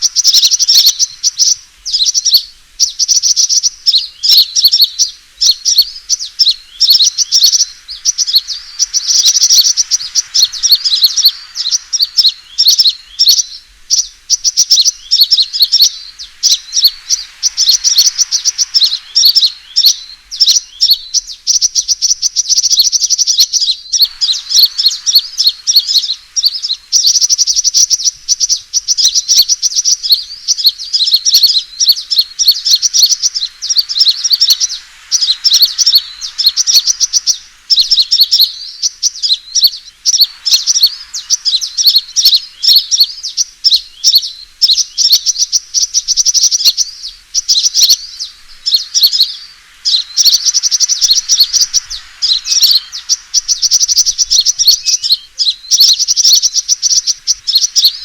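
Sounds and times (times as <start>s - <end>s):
high-pitched twittering bird chirps: 0.0s - 58.0s.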